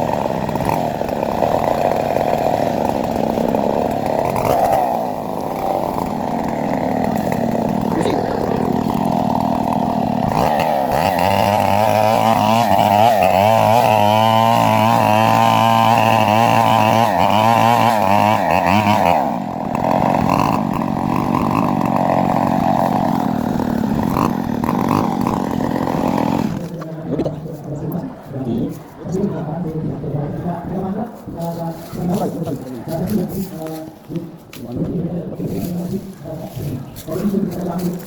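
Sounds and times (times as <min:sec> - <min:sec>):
chainsaw cutting wood: 0:00.0 - 0:27.7, 0:30.6 - 0:38.0.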